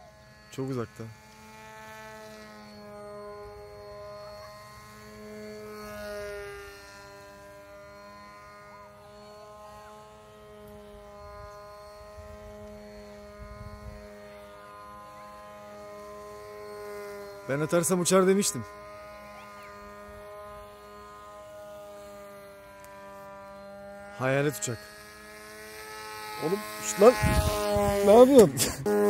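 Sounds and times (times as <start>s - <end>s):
model plane motor buzzing: 0.0s - 29.0s.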